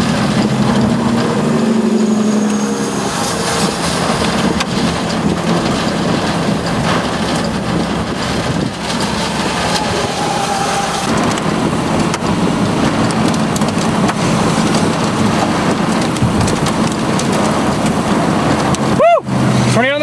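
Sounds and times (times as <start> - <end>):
heavy rain: 0.0 - 20.0
storm wind: 0.0 - 20.0
vehicle engine running: 0.0 - 20.0.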